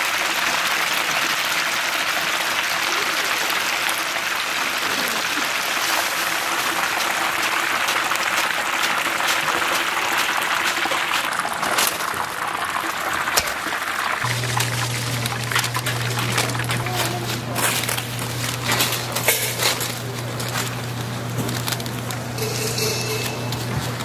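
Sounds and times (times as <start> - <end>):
hot oil sizzling: 0.0 - 24.0.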